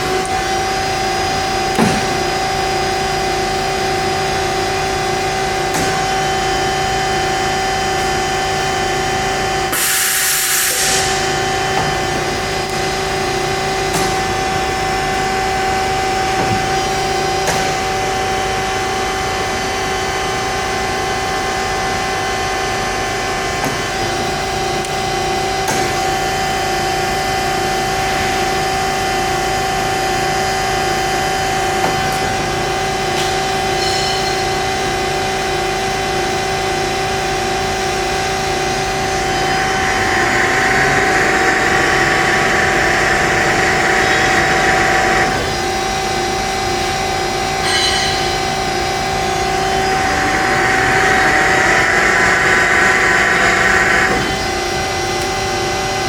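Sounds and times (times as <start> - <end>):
band saw humming: 10.8 - 56.0.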